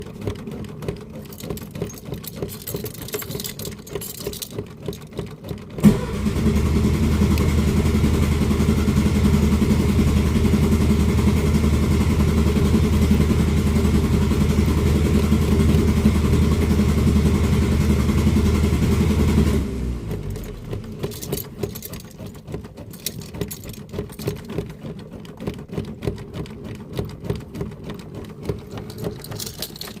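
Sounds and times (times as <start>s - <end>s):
car engine cranking on starter: 5.7s - 30.0s.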